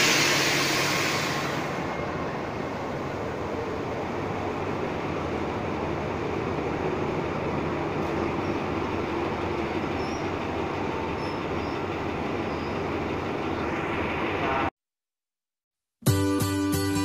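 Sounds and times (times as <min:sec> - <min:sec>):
locomotive diesel engine: 0:00.0 - 0:14.7
train wheels on rails: 0:00.0 - 0:14.7.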